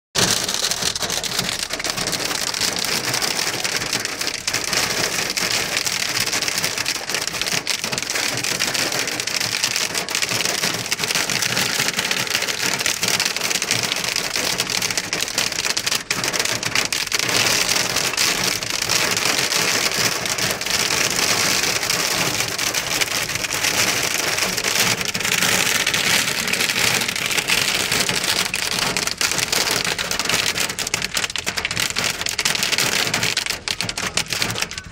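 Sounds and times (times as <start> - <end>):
hail and rain on car roof: 0.2 - 34.9.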